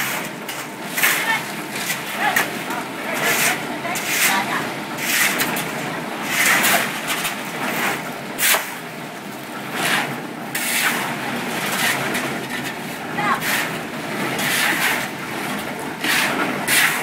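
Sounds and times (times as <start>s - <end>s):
concrete mixer running: 0.0s - 17.0s.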